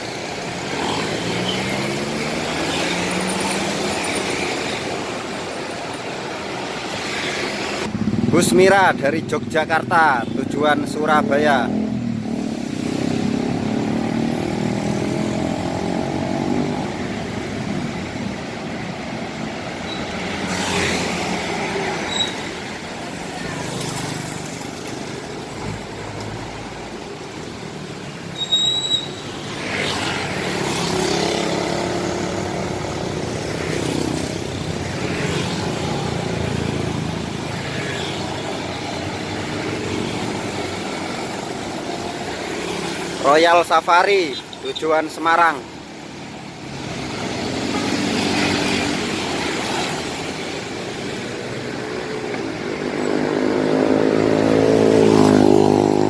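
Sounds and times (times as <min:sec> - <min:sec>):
buses passing: 0:00.0 - 0:43.7, 0:44.3 - 0:56.0.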